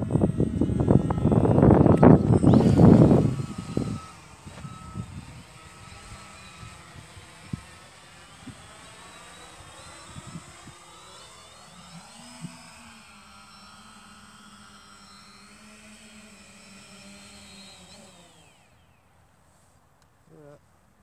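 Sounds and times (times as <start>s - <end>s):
drone propellers buzzing: 0.0s - 19.2s.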